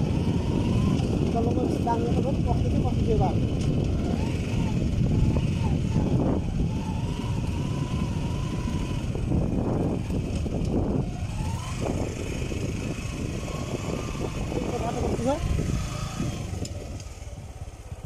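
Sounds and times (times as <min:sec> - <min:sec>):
motorcycle running: 0:00.0 - 0:18.0
wind and road noise: 0:00.0 - 0:18.0.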